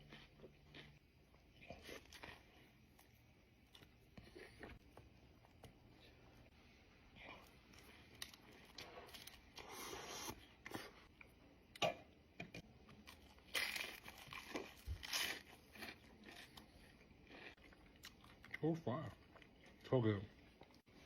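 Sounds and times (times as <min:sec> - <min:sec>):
crunching and chewing food: 0:00.0 - 0:21.0.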